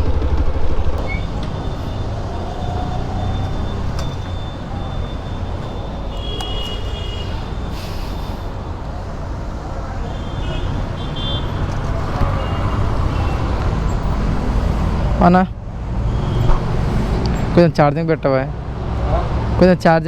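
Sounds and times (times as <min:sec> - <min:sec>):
motorcycle road and wind rumble: 0:00.0 - 0:20.0.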